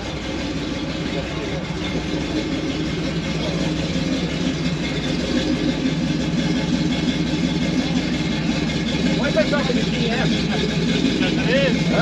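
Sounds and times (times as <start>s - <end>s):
pickup engine running at low revs: 0.0s - 12.0s.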